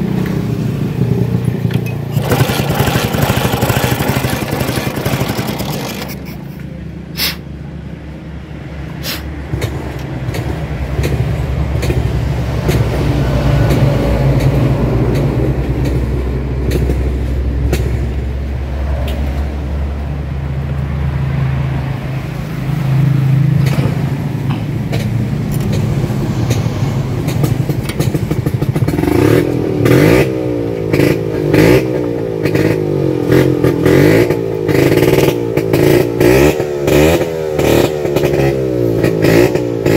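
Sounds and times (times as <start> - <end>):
scooter engines idling and revving: 0.0 - 39.9.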